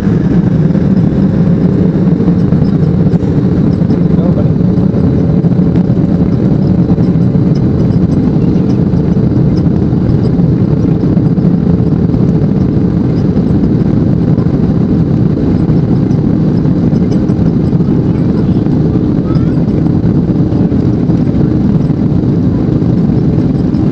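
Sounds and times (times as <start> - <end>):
jet engine noise from cabin: 0.0 - 23.9.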